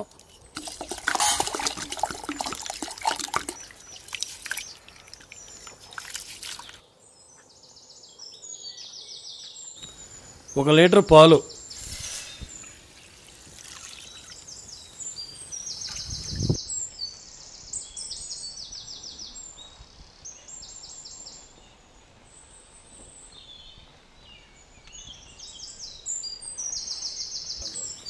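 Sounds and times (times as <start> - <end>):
birds chirping in trills: 0.0 - 22.7, 23.3 - 28.0.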